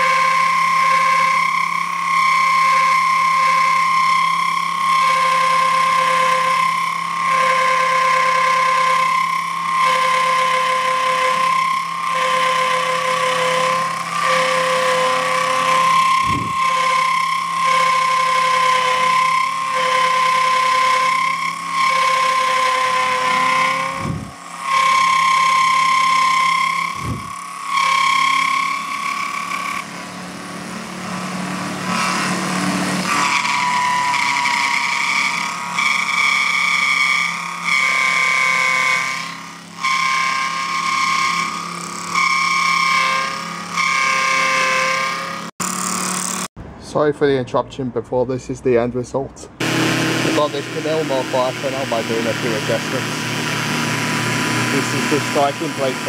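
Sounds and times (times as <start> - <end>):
milling machine whining: 0.0 - 46.5, 49.6 - 56.0.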